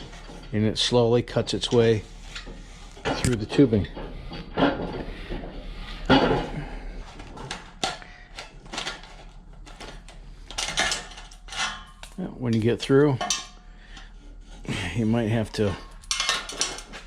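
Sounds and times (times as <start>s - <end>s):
pipe cutter metallic scrapes and clicks: 0.0s - 6.5s, 7.2s - 17.0s.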